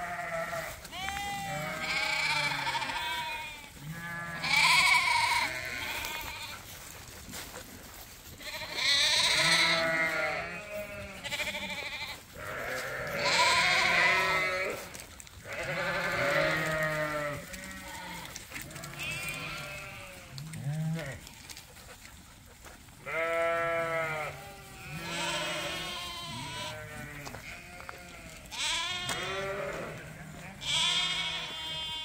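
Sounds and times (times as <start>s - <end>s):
lambs bleating: 0.0s - 6.7s, 8.4s - 21.7s, 23.0s - 32.0s.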